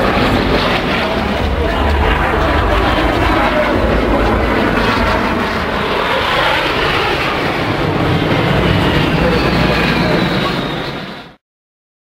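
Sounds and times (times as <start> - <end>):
jet aircraft flying past: 0.0 - 11.4.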